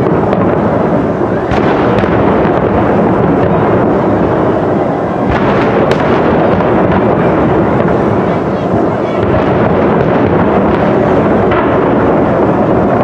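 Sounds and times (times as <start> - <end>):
fireworks shells bursting: 0.0 - 13.0
sharp firework cracks: 0.0 - 13.0.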